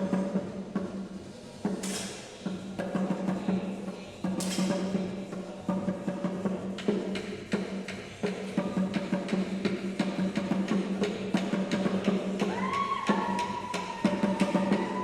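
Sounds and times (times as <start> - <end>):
drums beating rhythmically: 0.0 - 15.0.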